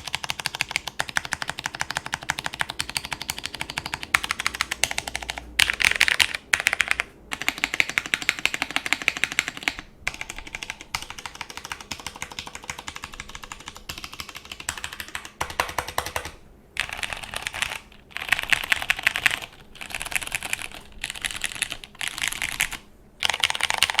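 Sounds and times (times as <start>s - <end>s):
typing on mechanical keyboard: 0.0s - 24.0s.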